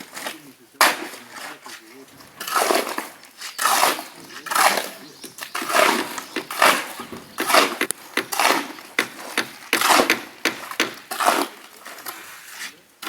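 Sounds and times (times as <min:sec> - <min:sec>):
shovel scraping through concrete: 0:00.0 - 0:12.9.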